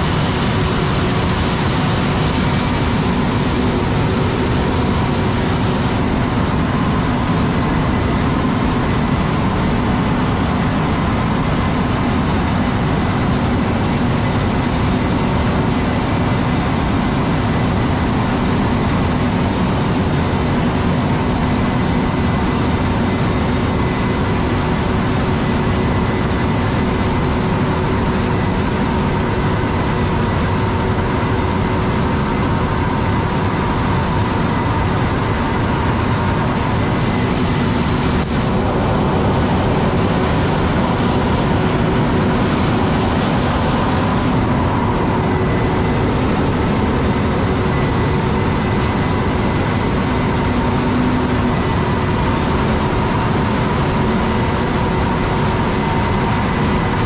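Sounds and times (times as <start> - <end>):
harvest machinery engine drone: 0.0 - 57.0
steady whining tones: 0.0 - 57.0.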